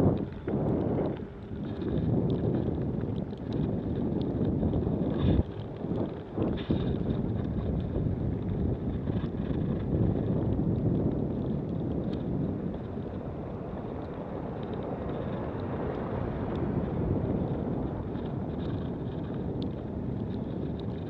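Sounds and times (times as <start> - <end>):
faint ticks: 0.0 - 21.0
wind buffeting microphone: 0.0 - 21.0.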